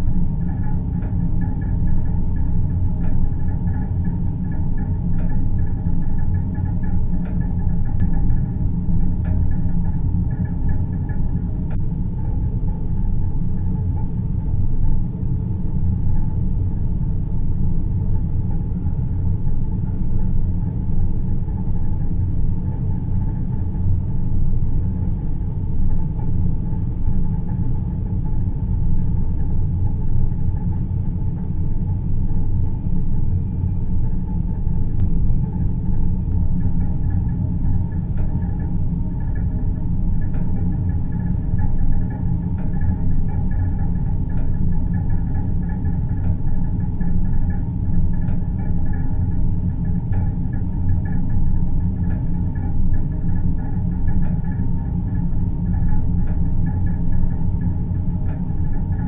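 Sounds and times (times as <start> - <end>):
faint high hum tones: 0.0 - 59.0
low rumbling drone: 0.0 - 59.0.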